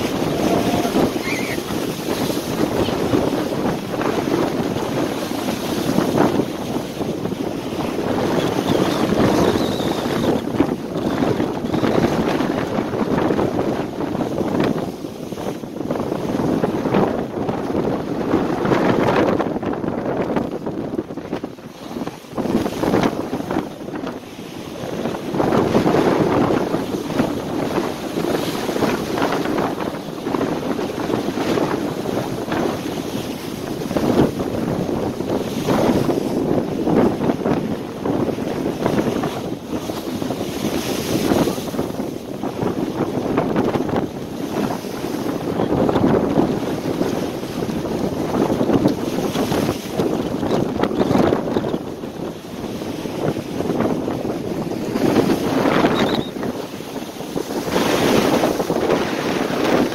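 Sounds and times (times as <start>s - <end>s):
waves breaking against rocks: 0.0s - 59.9s
wind buffeting microphone: 0.0s - 59.9s.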